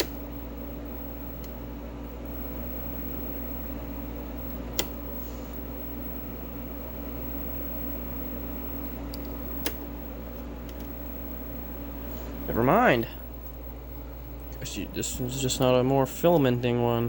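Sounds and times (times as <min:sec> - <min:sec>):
electrical hum and fan hiss: 0:00.0 - 0:17.0.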